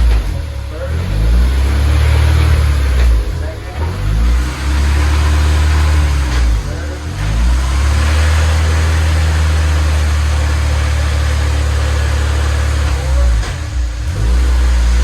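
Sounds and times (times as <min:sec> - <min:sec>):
car engine droning through exhaust: 0:00.0 - 0:15.0.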